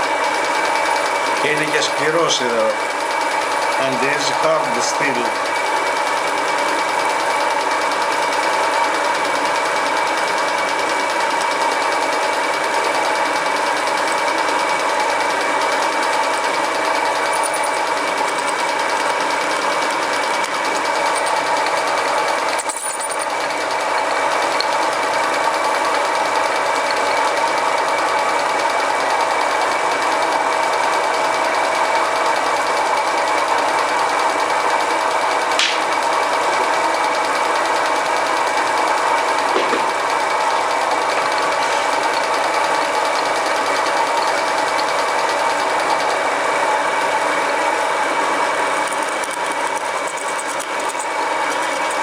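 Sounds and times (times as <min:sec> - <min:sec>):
lathe motor humming: 0:00.0 - 0:52.0
drill bit cutting steel: 0:00.2 - 0:52.0.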